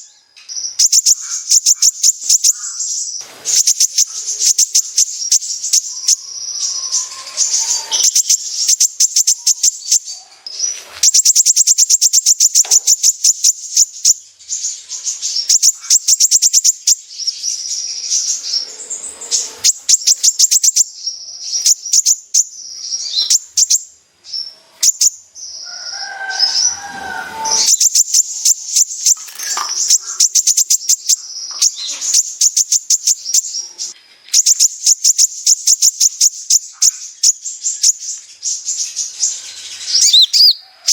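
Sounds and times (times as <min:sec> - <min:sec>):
sunbird rattling trills: 0:00.7 - 0:10.2, 0:10.9 - 0:23.8, 0:25.8 - 0:40.6.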